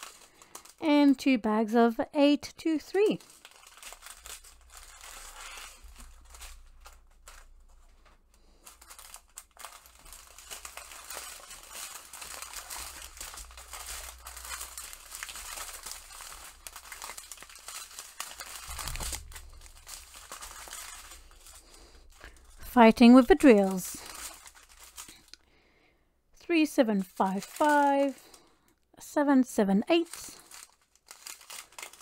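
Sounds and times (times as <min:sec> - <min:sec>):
plastic bags crinkling: 0:00.0 - 0:00.9, 0:03.0 - 0:25.4, 0:26.8 - 0:28.8, 0:30.0 - 0:32.0.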